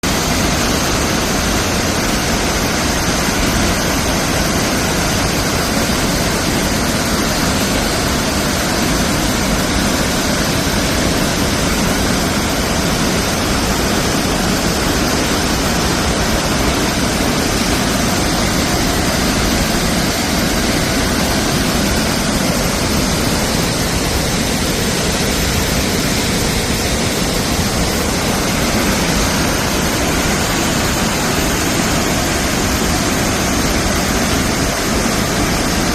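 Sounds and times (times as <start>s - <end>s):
waterfall pouring: 0.0s - 35.9s.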